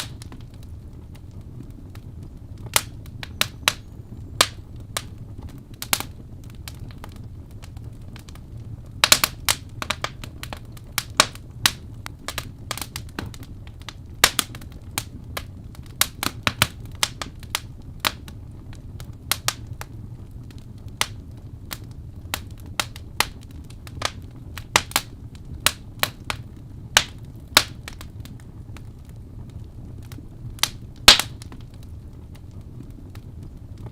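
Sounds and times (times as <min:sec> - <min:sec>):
logs crackling and popping: 0:00.0 - 0:33.9
low rumble of flames: 0:00.0 - 0:33.9.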